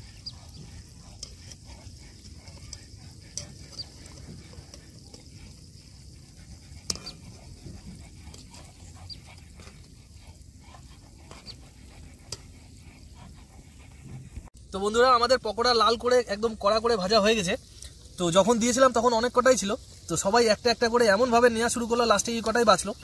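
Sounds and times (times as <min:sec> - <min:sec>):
food sizzling in hot oil: 0:00.0 - 0:12.6, 0:14.5 - 0:23.0.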